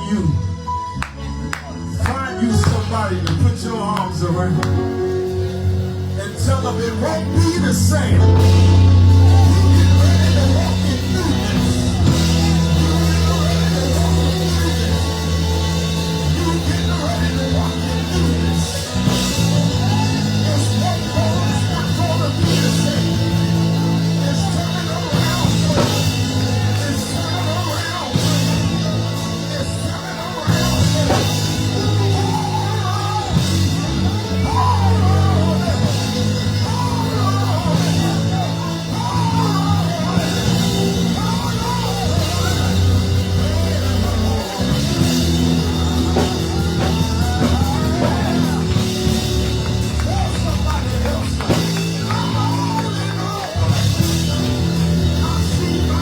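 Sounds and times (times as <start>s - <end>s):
drums: 0.0s - 56.0s
held low chords: 0.0s - 56.0s
singing: 1.6s - 56.0s.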